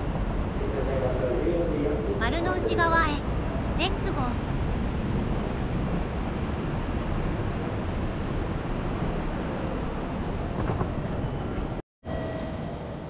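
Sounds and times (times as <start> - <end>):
railway station ambient din: 0.0 - 13.0.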